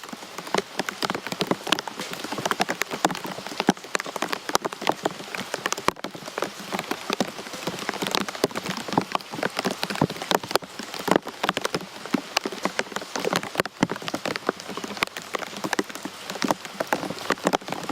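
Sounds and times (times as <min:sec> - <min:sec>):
close raindrops striking: 0:00.0 - 0:17.9
rain falling: 0:00.0 - 0:17.9.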